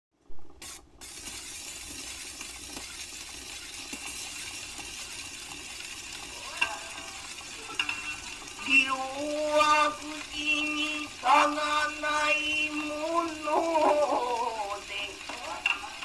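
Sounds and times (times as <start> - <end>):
record crackle and hiss: 0.2 - 16.0.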